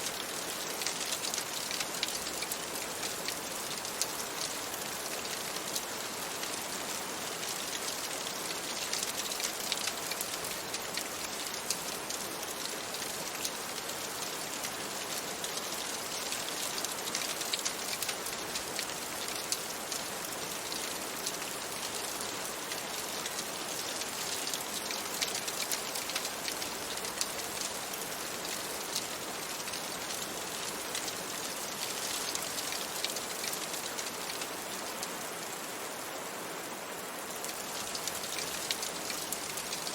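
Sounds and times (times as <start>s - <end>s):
crackling wood fire: 0.0s - 34.8s, 37.4s - 39.9s
rain on a window: 0.0s - 39.9s.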